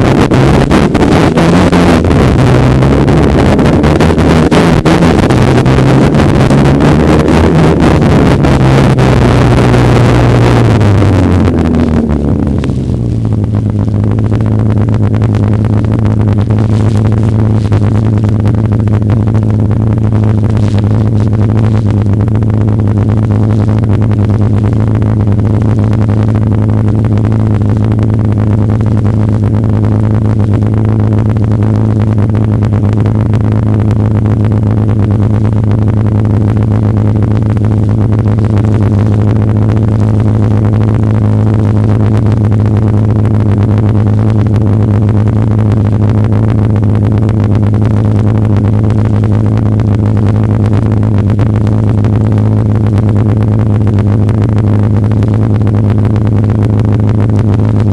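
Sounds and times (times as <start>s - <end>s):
snowmobile engine droning: 0.0s - 57.9s.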